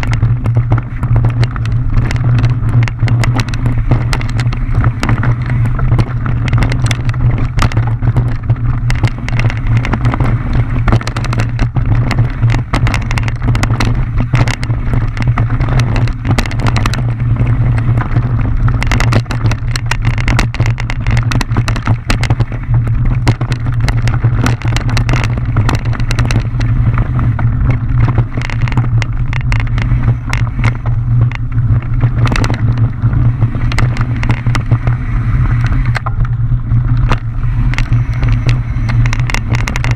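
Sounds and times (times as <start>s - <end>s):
mountain bike rumble and rattle: 0.0s - 39.9s.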